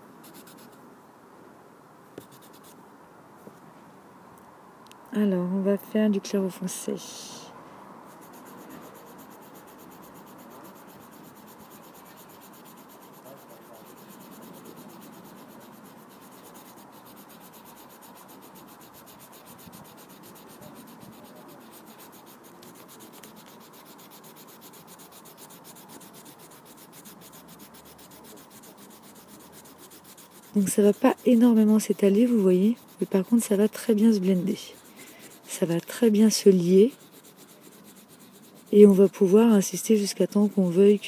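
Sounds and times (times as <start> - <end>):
pencil rubbing on paper: 0.0 - 0.8, 2.2 - 2.8, 8.1 - 41.0.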